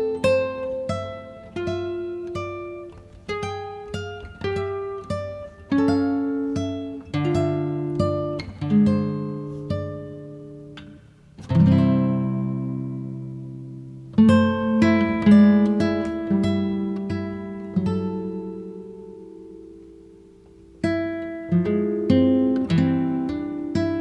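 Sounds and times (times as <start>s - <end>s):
plucked acoustic guitar: 0.0s - 24.0s.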